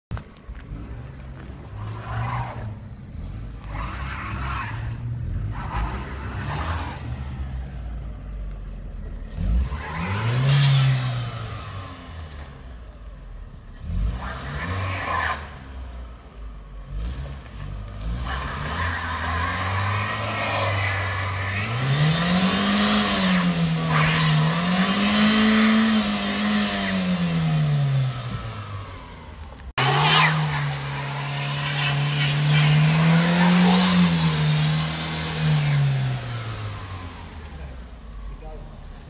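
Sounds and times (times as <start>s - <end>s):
car engine revving: 0.2s - 39.0s.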